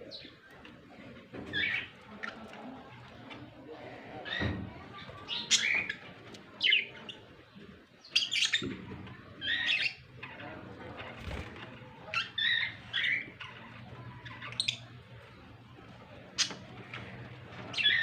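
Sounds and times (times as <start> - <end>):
pet birds chirping: 0.0 - 0.7, 1.4 - 2.9, 4.3 - 18.0.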